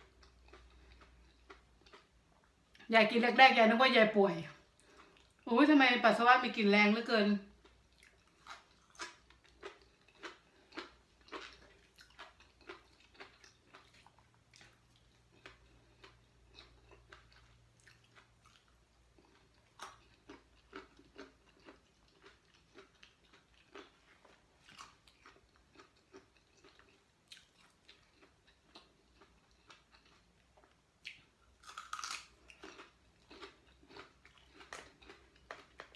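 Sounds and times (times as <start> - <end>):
person chewing and crunching: 0.0 - 2.9, 4.6 - 5.5, 7.5 - 35.9.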